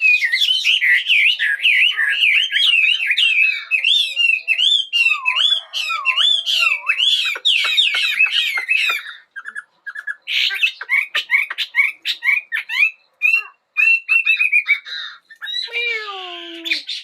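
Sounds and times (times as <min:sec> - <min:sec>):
bird singing whistles: 0:00.0 - 0:10.1, 0:11.3 - 0:15.6.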